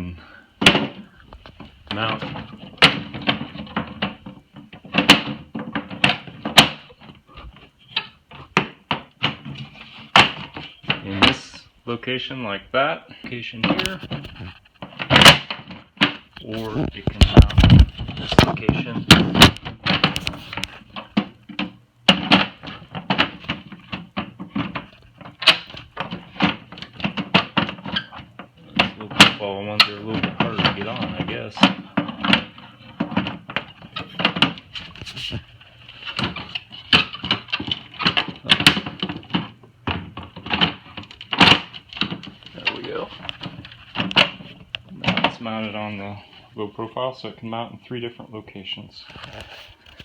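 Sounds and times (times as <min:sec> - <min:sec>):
plastic toolbox clacks and knocks: 0:00.6 - 0:11.4, 0:13.6 - 0:46.2.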